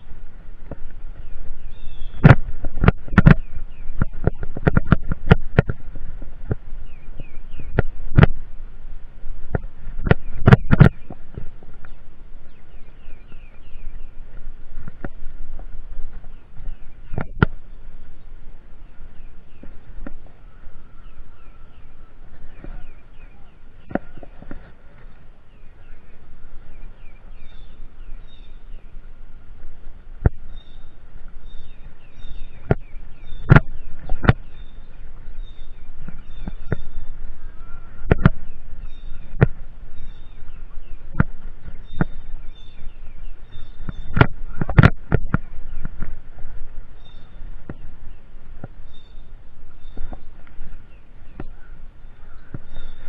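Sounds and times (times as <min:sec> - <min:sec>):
bike tyre rumble: 0:00.0 - 0:53.0
birds chirping: 0:00.0 - 0:53.0
wind: 0:00.0 - 0:53.0.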